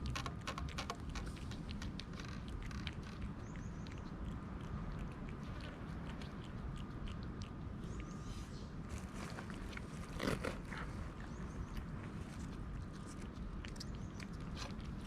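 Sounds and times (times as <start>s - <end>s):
cats chewing clicks: 0.0s - 8.2s, 9.4s - 15.0s
low background rumble: 0.0s - 15.0s.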